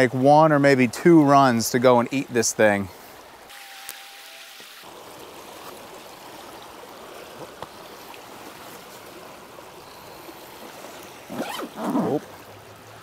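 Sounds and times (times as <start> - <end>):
river water running over rocks: 0.0 - 13.0.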